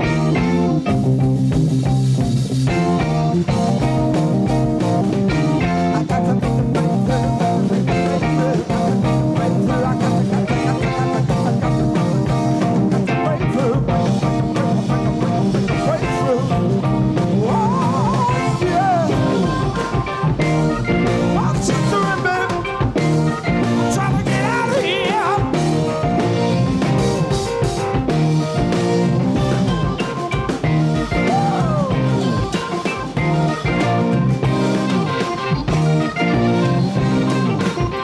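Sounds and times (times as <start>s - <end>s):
bending lead guitar line: 0.0s - 38.0s
hard rock band playing: 0.0s - 38.0s.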